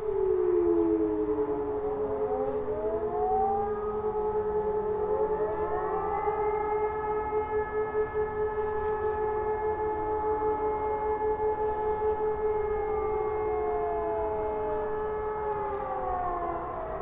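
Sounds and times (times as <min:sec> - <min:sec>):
distant sirens overlapping: 0:00.0 - 0:17.0
steady pulsing tone: 0:00.0 - 0:17.0.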